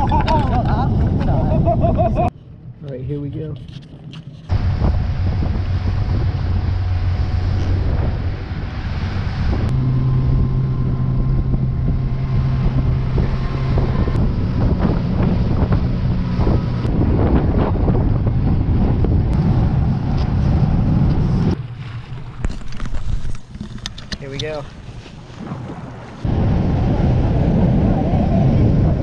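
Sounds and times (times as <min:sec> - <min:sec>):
rush of wind and water: 0:00.0 - 0:02.3, 0:03.8 - 0:29.0
wind buffeting microphone: 0:00.0 - 0:02.3, 0:03.2 - 0:29.0
speedboat engine humming: 0:04.4 - 0:28.9.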